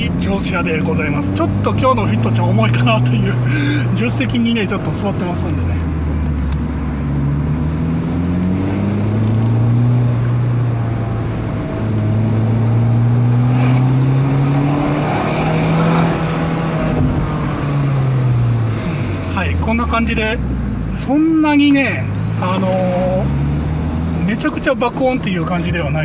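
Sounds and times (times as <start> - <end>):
car engine revving: 0.0 - 26.0
tyre and road noise: 0.0 - 26.0.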